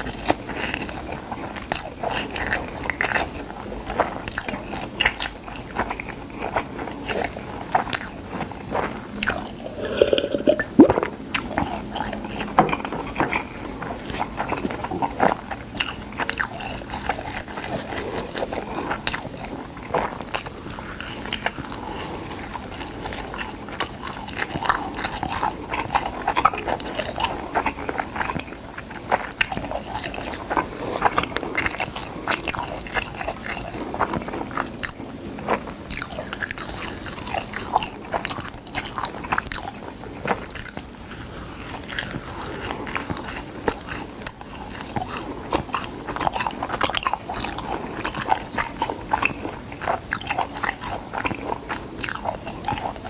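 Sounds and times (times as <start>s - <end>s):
crunchy chewing of seaweed: 0.0s - 53.0s.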